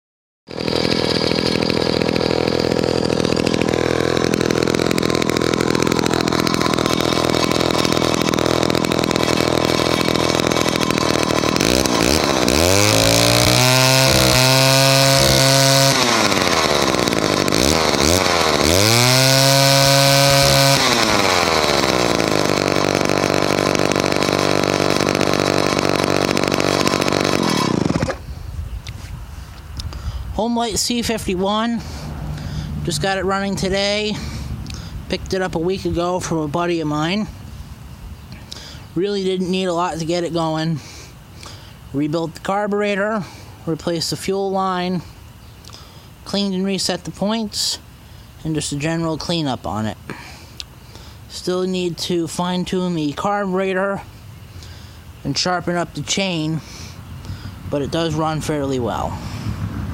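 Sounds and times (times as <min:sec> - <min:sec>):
chainsaw engine idling and revving: 0:00.5 - 0:28.3, 0:29.5 - 0:59.9.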